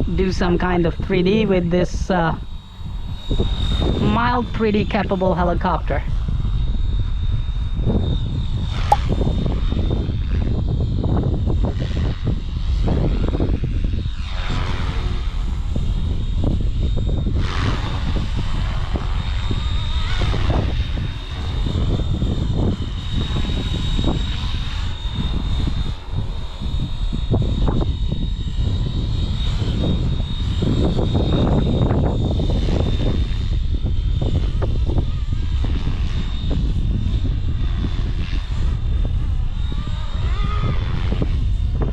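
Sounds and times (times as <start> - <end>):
helicopter motor whine and rotors: 0.0 - 41.9
wind rumble on microphone: 0.0 - 41.9.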